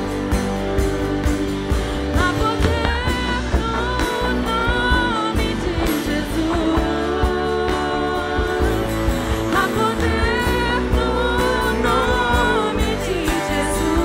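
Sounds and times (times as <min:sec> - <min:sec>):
electric bass: 0:00.0 - 0:14.0
electric guitar: 0:00.0 - 0:14.0
live worship band playing: 0:00.0 - 0:14.0
person singing: 0:02.0 - 0:14.0.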